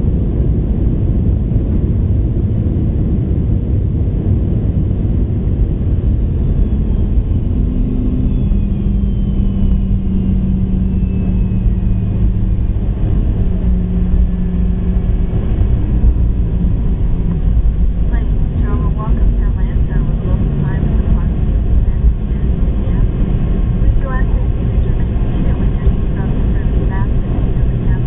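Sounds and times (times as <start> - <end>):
airplane cabin engine rumble: 0.0 - 28.0
faint falling whine: 4.7 - 28.0.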